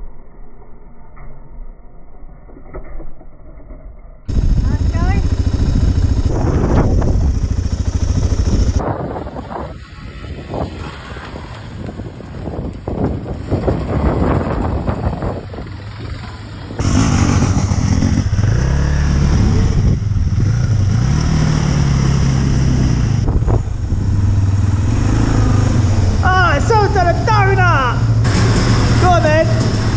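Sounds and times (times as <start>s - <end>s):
dirt bike engines revving: 4.3s - 29.9s.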